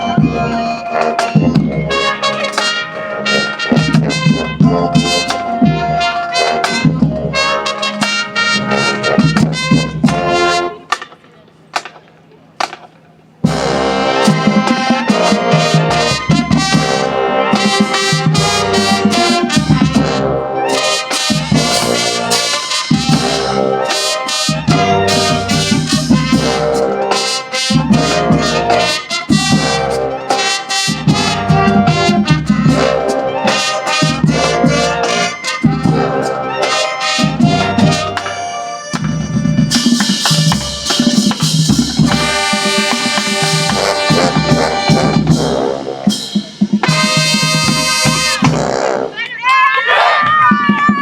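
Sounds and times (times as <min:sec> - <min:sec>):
marching band playing: 0:00.0 - 0:51.0.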